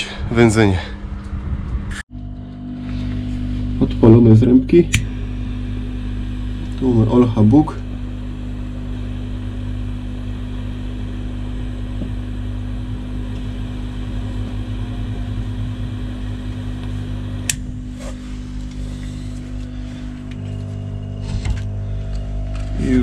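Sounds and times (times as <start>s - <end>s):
smoke generator humming: 2.1s - 23.0s.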